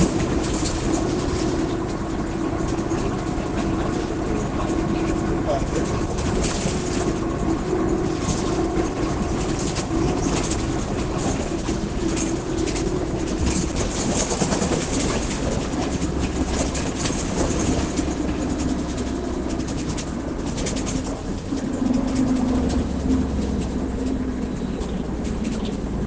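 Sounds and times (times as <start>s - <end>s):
bus differential growling: 0.0s - 26.0s
bus rattles: 0.0s - 26.0s
road rumble: 0.0s - 26.0s.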